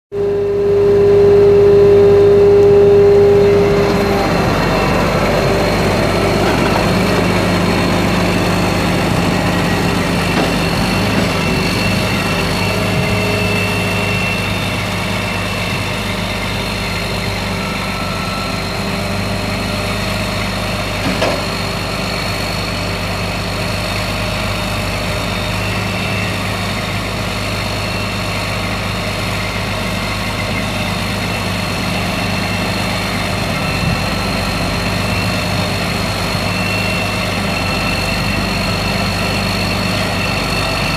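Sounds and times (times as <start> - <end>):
truck diesel engine idling: 0.2 - 40.9.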